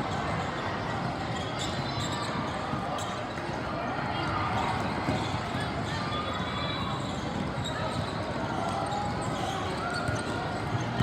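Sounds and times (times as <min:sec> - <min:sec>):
crowd and player chatter: 0:00.0 - 0:11.0.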